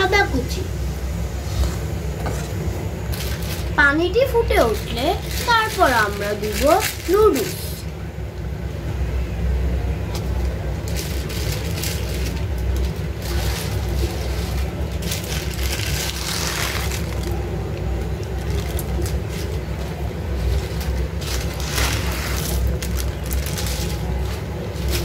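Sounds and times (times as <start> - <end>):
gas burner rumble: 0.0 - 25.0.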